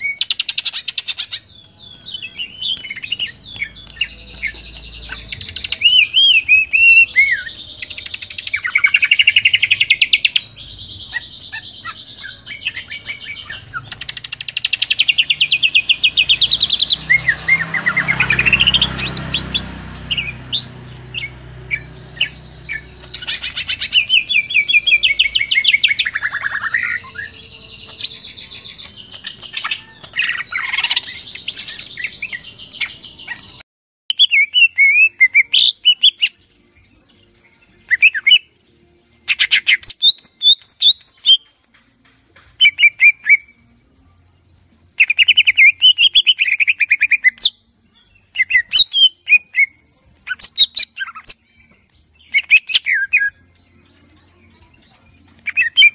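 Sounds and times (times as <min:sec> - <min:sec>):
bird singing whistles and trills: 0:00.0 - 0:33.5, 0:34.1 - 0:36.4, 0:37.8 - 0:38.5, 0:39.3 - 0:41.5, 0:42.6 - 0:43.6, 0:45.0 - 0:47.6, 0:48.2 - 0:53.8, 0:55.4 - 0:55.9.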